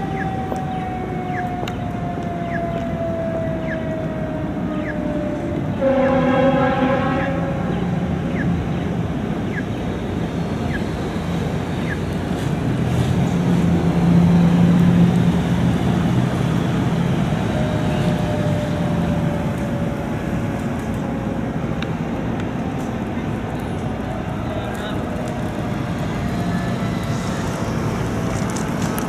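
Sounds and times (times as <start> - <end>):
fire engine engine humming: 0.0 - 29.0.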